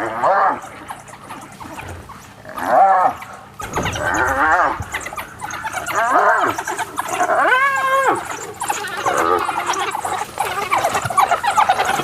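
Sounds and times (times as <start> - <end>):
hyena squealing and whining: 0.0 - 12.0.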